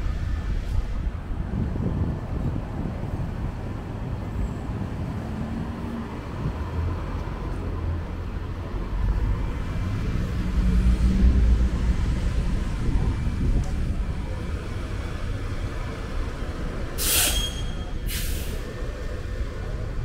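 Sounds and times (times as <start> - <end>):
car engines rumbling: 0.0 - 20.0.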